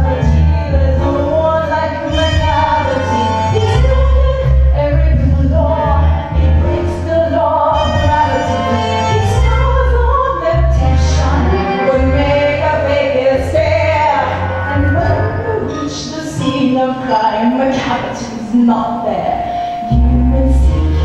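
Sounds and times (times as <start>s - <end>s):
heavy pulsing bass accompaniment: 0.0s - 21.0s
women singing: 0.0s - 21.0s.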